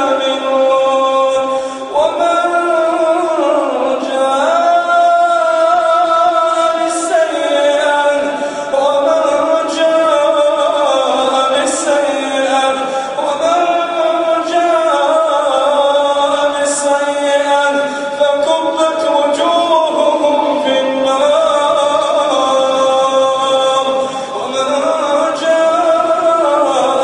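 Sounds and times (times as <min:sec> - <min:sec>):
man chanting melodically: 0:00.0 - 0:27.0.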